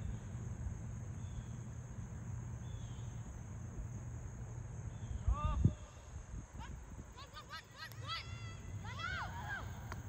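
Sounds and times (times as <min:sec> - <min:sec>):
high-pitched insect chorus: 0:00.0 - 0:10.0
low continuous rumble: 0:00.0 - 0:10.0.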